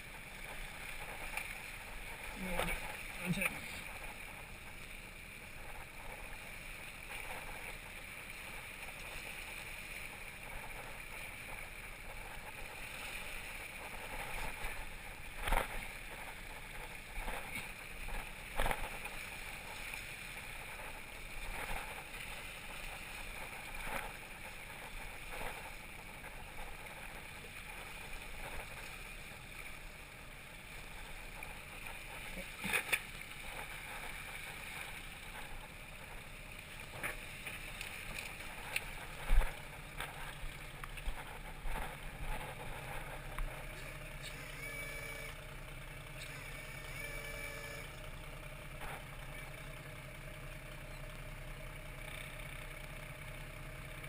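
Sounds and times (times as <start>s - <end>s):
water rushing along boat hull: 0.0s - 54.0s.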